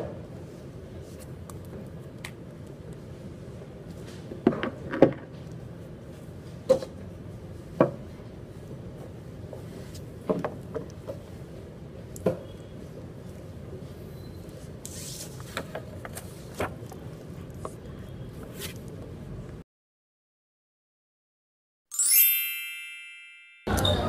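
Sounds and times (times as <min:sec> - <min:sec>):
room noise: 0:00.0 - 0:19.6.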